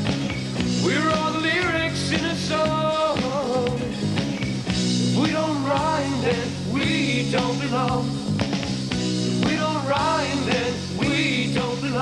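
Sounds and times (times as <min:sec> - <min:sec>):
rock band music: 0:00.0 - 0:12.0.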